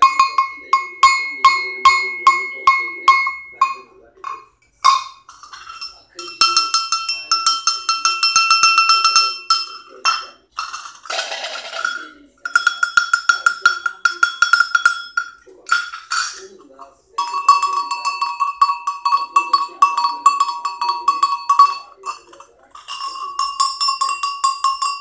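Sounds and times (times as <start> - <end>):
livestock bell clanking: 0.0 - 25.0
scraping rattle: 4.2 - 25.0.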